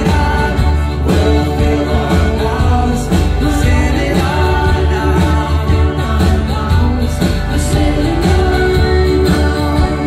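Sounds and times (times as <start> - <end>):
drums: 0.0 - 10.0
man singing: 0.0 - 10.0.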